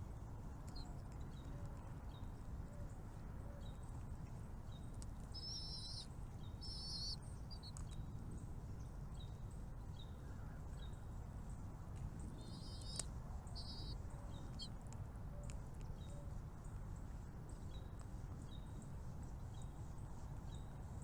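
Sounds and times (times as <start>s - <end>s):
small birds chirping: 0.2s - 21.0s.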